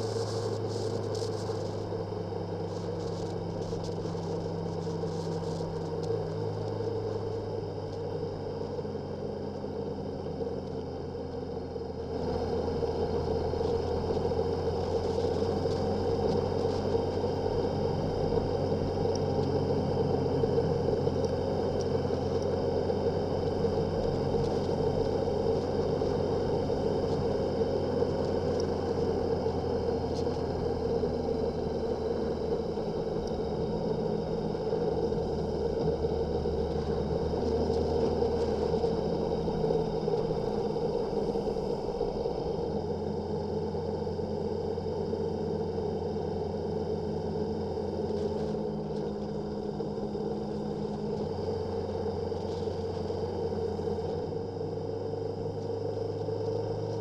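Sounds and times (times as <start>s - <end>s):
motorcycle engine running: 0.0s - 54.5s.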